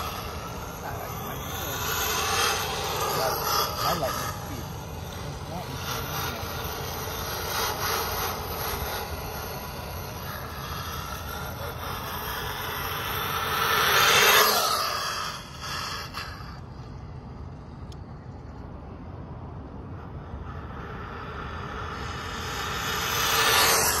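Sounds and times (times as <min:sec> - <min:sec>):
rc car motor whirring: 0:00.0 - 0:18.6, 0:19.5 - 0:24.0.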